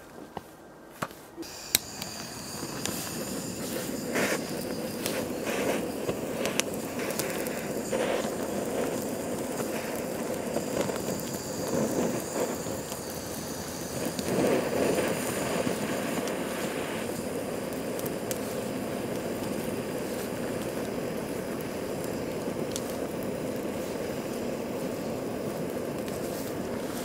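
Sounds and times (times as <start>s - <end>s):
gas torch hissing: 1.4s - 27.0s
sharp clicks and crackles: 1.4s - 27.0s.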